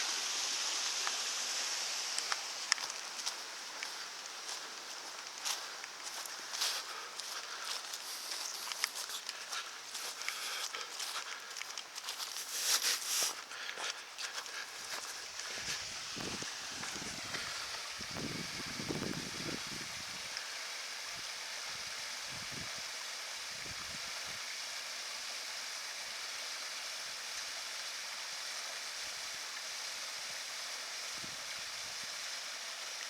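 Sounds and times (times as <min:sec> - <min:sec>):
water flowing: 0:00.0 - 0:33.0.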